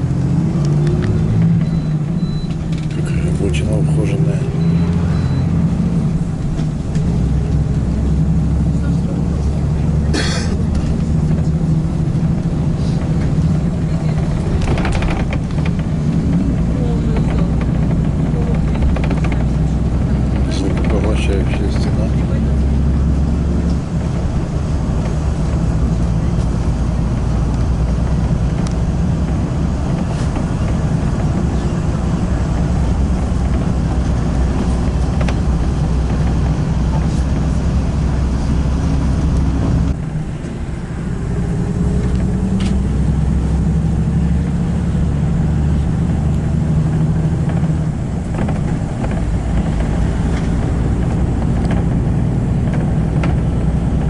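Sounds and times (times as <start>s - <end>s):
car engine: 0.0s - 54.0s
road rumble: 0.0s - 54.0s.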